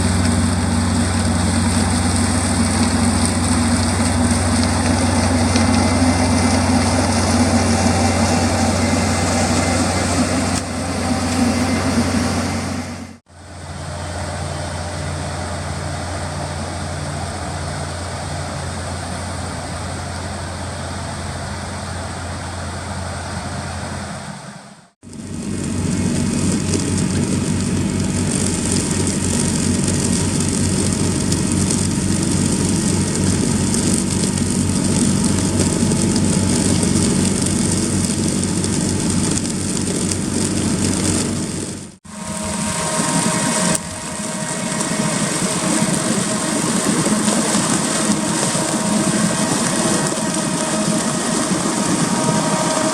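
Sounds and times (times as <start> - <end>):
heavy farm machinery running: 0.0 - 52.9.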